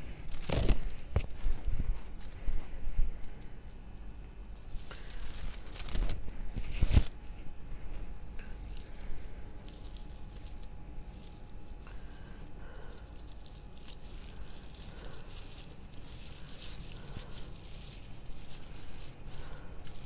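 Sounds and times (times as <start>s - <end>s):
raffia rustling and crinkling: 0.0s - 20.0s.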